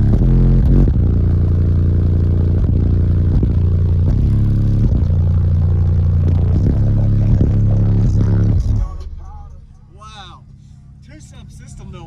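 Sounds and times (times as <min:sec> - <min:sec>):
deep loud bass music: 0:00.0 - 0:12.0.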